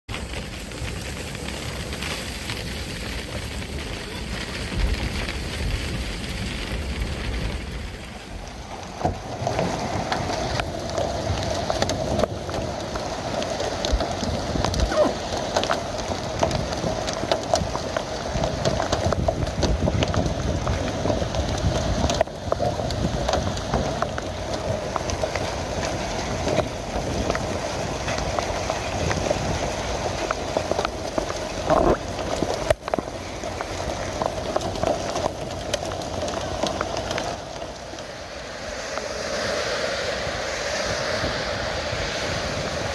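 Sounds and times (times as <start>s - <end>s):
rain on hard surface: 0.1s - 42.9s.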